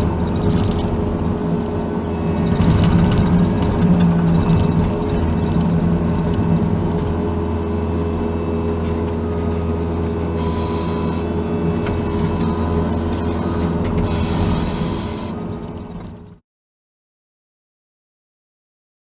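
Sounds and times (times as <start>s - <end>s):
diesel engine droning: 0.0s - 16.4s.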